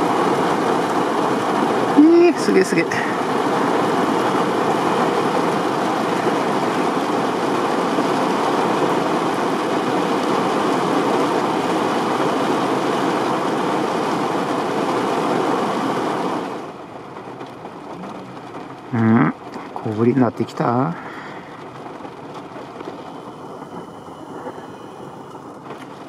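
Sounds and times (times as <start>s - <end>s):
heavy rain on car roof: 0.0s - 26.0s.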